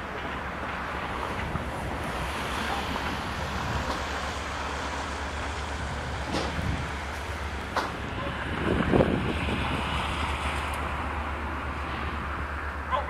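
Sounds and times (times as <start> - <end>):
diesel engine drone: 0.0 - 13.0
train rumble: 0.0 - 13.0.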